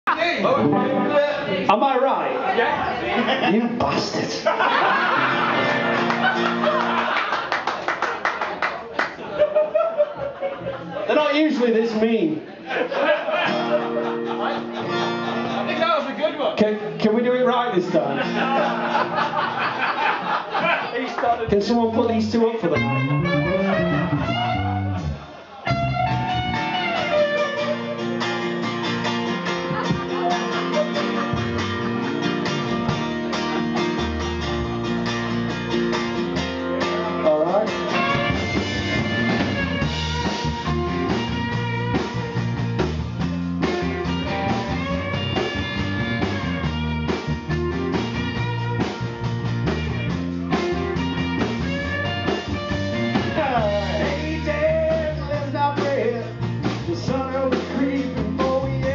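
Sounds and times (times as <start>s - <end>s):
live rock band playing: 0.1s - 2.0s, 3.8s - 7.5s, 11.4s - 20.6s, 21.3s - 58.9s.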